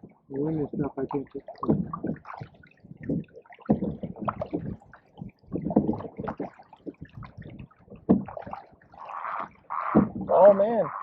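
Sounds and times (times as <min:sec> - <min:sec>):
water gurgling around canoe: 0:00.0 - 0:11.0.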